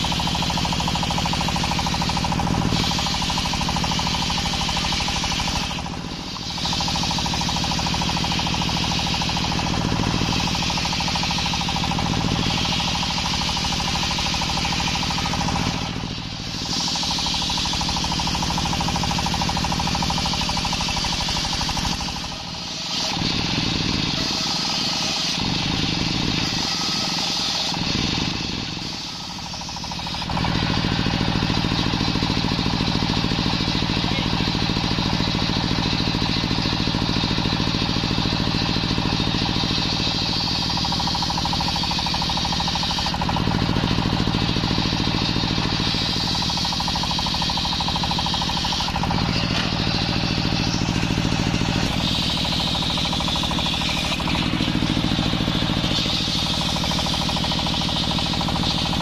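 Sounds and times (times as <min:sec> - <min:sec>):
circular saw blade whine: 0:00.0 - 0:59.0
saw drive engine drone: 0:00.0 - 0:59.0.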